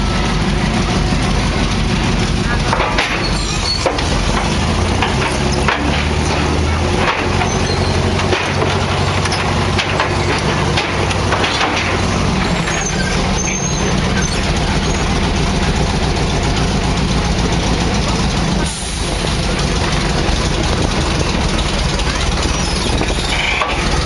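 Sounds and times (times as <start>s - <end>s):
steel tracks clanking: 0.0s - 24.0s
tank engine running under load: 0.0s - 24.0s.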